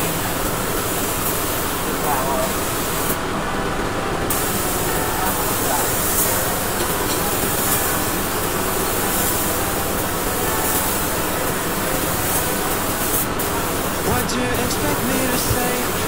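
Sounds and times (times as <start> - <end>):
paint spray gun hissing: 0.0 - 3.2, 4.3 - 16.0.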